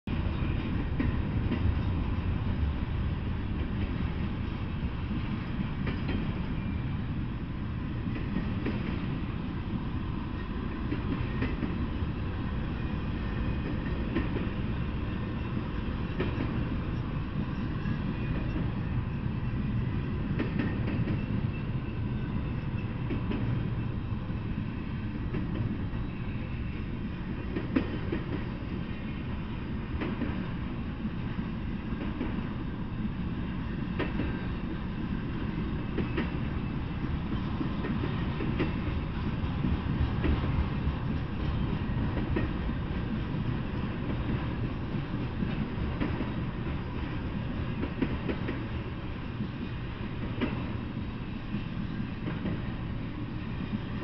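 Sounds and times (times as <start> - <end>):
rumble of train wheels on rail: 0.0 - 54.0.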